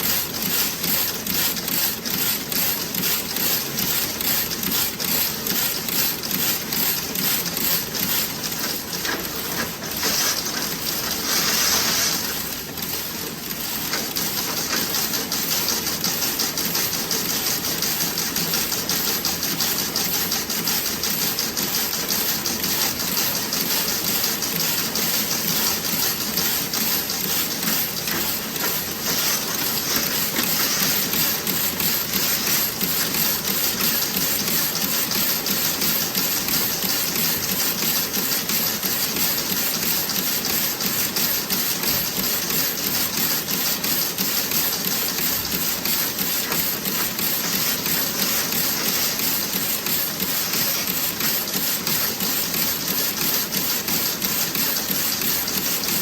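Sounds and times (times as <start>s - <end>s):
knitting machine clattering: 0.0s - 56.0s.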